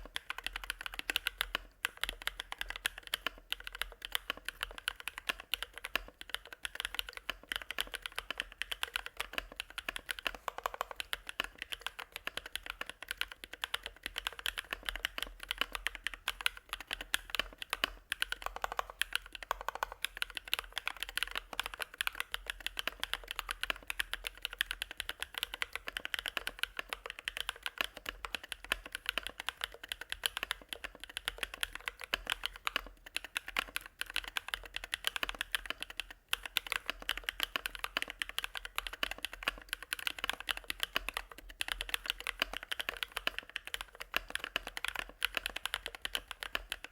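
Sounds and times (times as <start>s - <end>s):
fast typing on mechanical keyboard: 0.0s - 46.9s.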